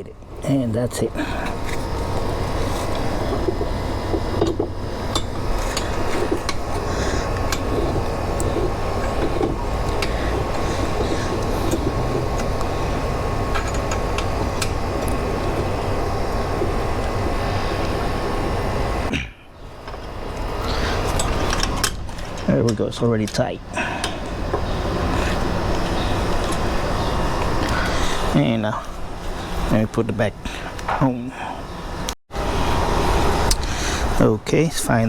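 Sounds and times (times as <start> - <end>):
steady rumbling noise: 0.0 - 35.0.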